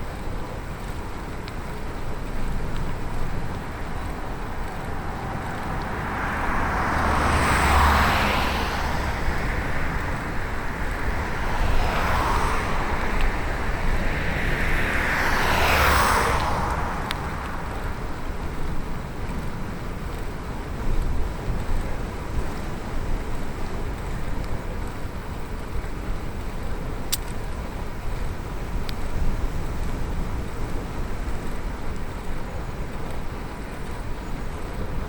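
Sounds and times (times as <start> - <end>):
motor vehicles passing: 0.0 - 35.0
wind and tyre noise: 0.0 - 35.0.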